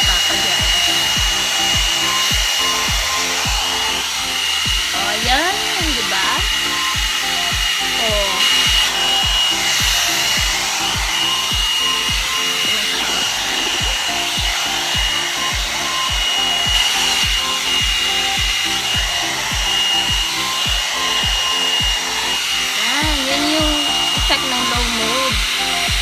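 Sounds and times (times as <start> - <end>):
background music with beat: 0.0 - 26.0
hair dryer whining: 0.0 - 26.0.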